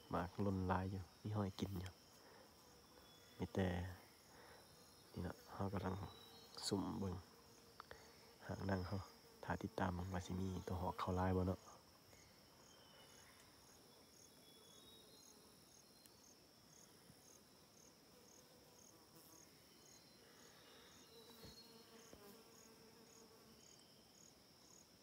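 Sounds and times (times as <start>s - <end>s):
high-pitched insect buzz: 0.0s - 25.0s
insect chirping: 0.0s - 25.0s.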